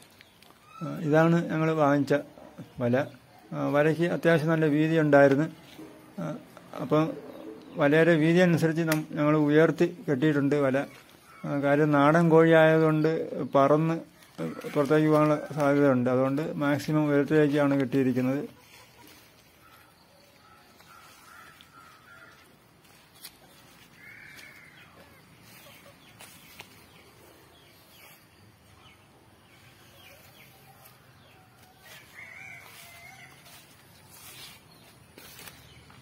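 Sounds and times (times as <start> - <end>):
chickens calling faintly: 0.0 - 36.0.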